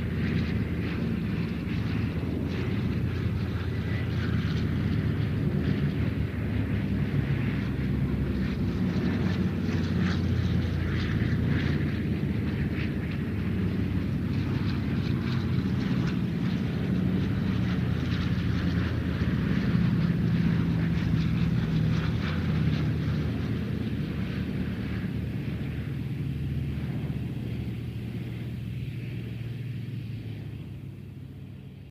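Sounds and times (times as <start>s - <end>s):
propeller airplane engine drone: 0.0s - 31.9s.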